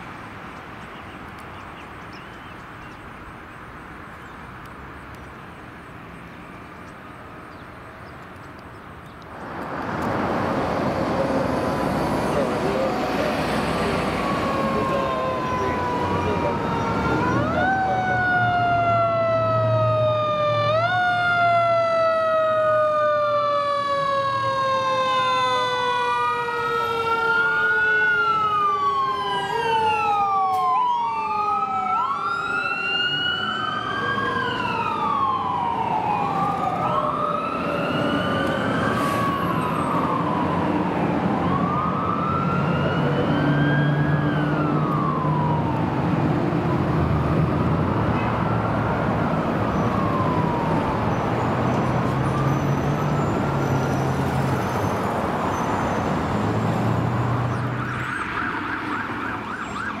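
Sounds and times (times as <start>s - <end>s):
truck engines rumbling: 0.0s - 60.0s
fire truck sirens wailing: 9.5s - 60.0s.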